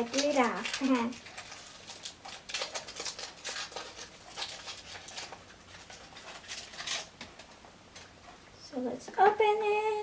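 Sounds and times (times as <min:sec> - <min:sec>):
wrapper crinkling: 0:00.0 - 0:08.1.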